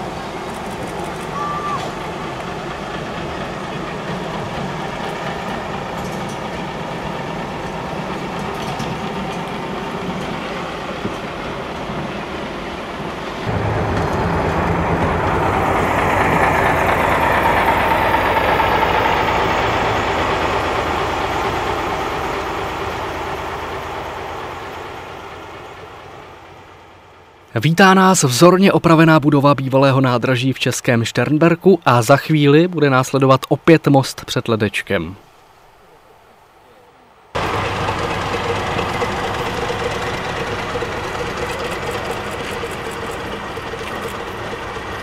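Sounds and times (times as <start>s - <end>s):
motor railcar running: 0.0s - 33.8s, 35.3s - 45.0s.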